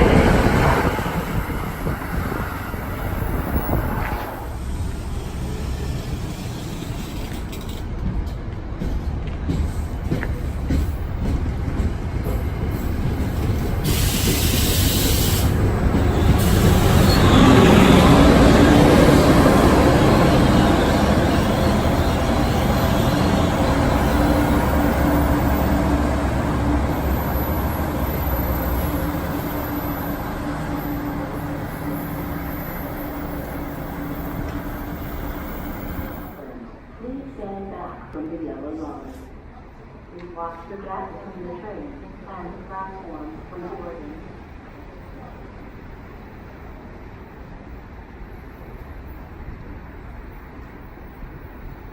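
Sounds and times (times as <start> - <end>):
train rumbling past: 0.0 - 51.9.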